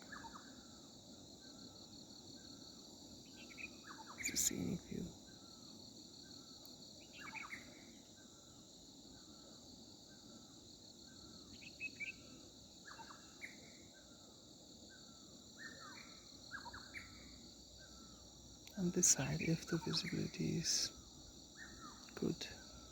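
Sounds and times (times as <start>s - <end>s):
high-pitched insect chorus: 0.0s - 22.9s.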